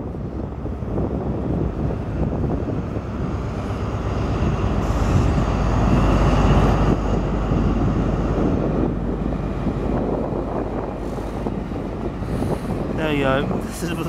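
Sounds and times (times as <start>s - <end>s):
diesel train engine running hard: 0.0s - 14.0s.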